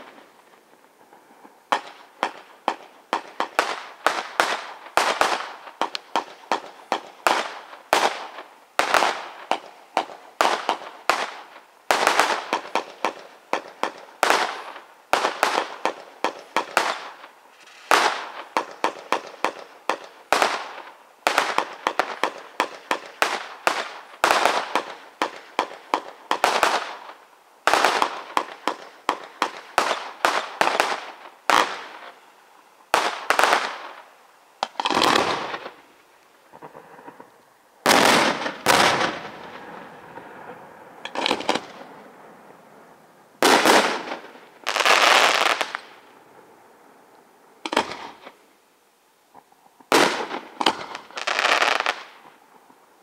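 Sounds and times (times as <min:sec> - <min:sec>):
firework bursts with rushing tail: 0:00.0 - 0:32.3, 0:32.9 - 0:42.6, 0:43.4 - 0:46.3, 0:49.9 - 0:52.3
fireworks bangs: 0:00.0 - 0:32.3, 0:32.9 - 0:42.1, 0:43.4 - 0:46.2, 0:47.6 - 0:48.4, 0:49.9 - 0:52.4.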